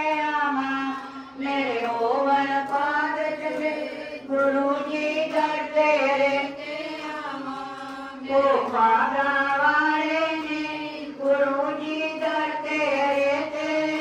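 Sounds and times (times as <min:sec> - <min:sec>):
person singing a devotional chant: 0:00.0 - 0:14.0.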